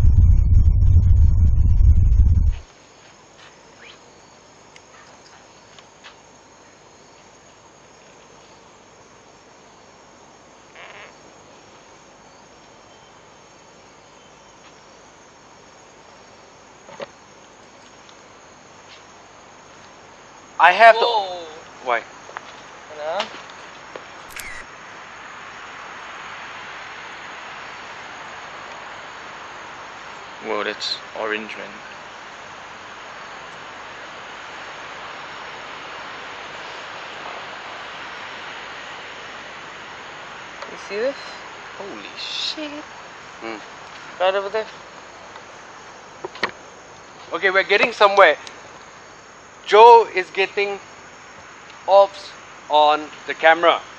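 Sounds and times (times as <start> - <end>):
crickets chirping: 0.0 - 53.9
outdoor night ambience hiss: 2.5 - 53.9.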